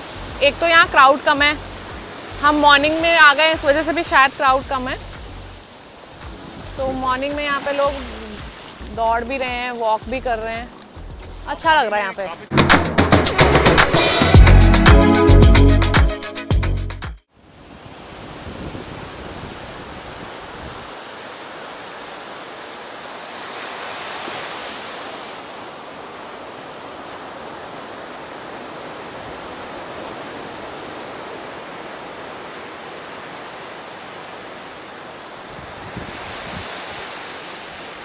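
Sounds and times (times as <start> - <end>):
waves washing onto beach: 0.0 - 10.8, 17.3 - 38.0.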